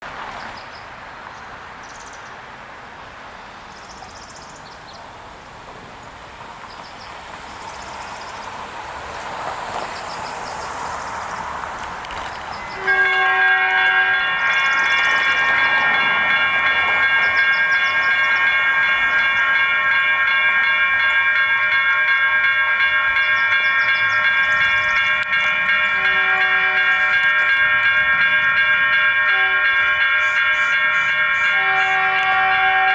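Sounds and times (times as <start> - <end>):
railroad crossing bells ringing: 6.4 - 32.9.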